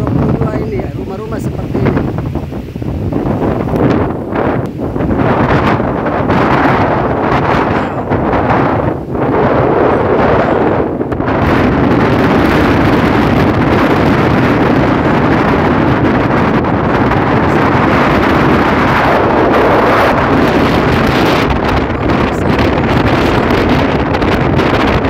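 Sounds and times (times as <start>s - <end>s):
wind blowing through trees: 0.0s - 25.0s
wind buffeting microphone: 0.0s - 25.0s.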